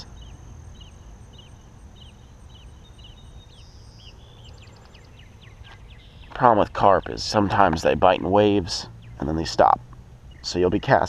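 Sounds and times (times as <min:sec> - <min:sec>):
high insect buzz: 0:00.0 - 0:10.8
bird chirping: 0:00.0 - 0:11.0.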